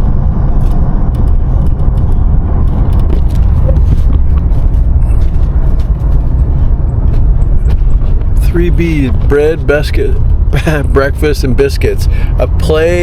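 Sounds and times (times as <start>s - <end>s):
van tyres and engine rumbling: 0.0s - 13.0s.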